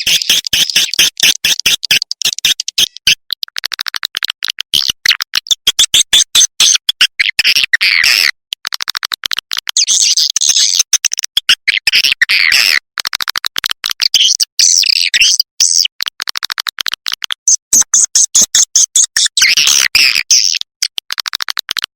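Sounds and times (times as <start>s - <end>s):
swiftlet clicks and chirps: 0.0s - 21.9s.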